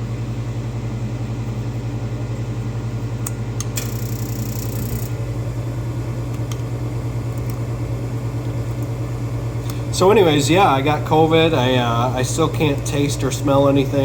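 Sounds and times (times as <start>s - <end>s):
furnace humming and pulsing: 0.0s - 14.0s.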